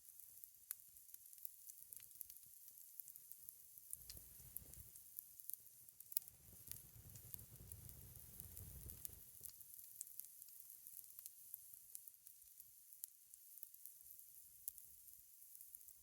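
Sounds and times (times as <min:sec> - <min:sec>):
pancakes sizzling in skillet: 0:00.0 - 0:16.0
fire crackles: 0:00.1 - 0:16.0.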